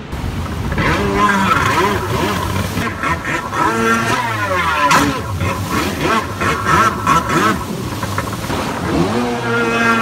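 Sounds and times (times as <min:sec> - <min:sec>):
jet ski engine revving: 0:00.0 - 0:10.0.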